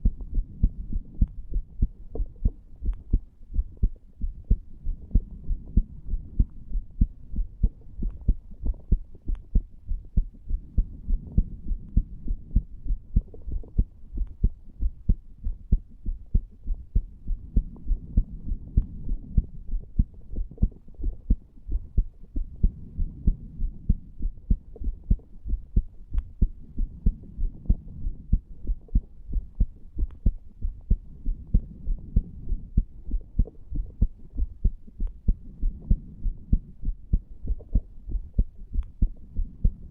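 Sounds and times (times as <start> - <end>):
heart beating: 0.0 - 39.9.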